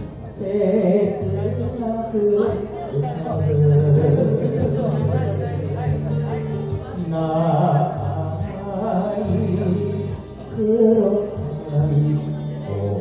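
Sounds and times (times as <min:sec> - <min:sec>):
karaoke backing track: 0:00.0 - 0:13.0
man singing a ballad: 0:00.0 - 0:13.0.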